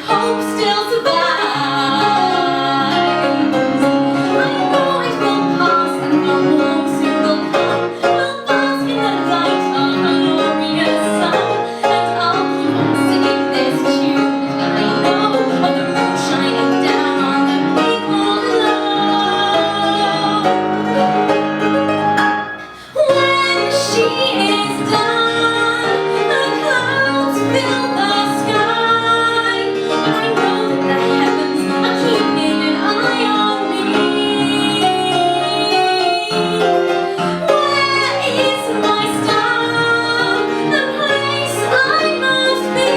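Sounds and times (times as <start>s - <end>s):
woman singing: 0.0s - 21.3s, 22.8s - 42.9s
instrumental accompaniment: 0.0s - 42.9s.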